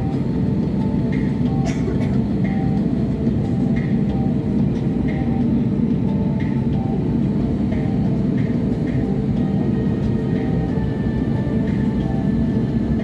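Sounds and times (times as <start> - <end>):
aircraft engine noise: 0.0 - 13.0
airliner cabin rumble: 0.0 - 13.0.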